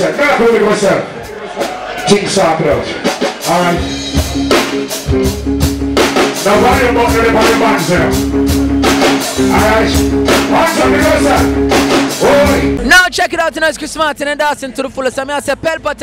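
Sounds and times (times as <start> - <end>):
live reggae band: 0.0 - 15.9.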